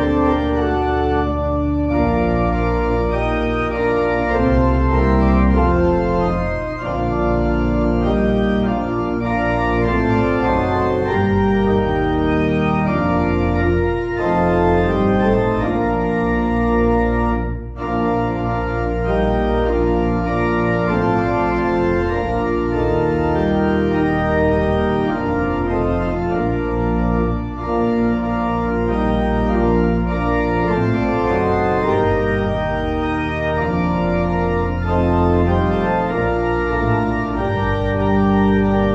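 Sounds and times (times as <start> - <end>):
organ music: 0.0 - 38.9.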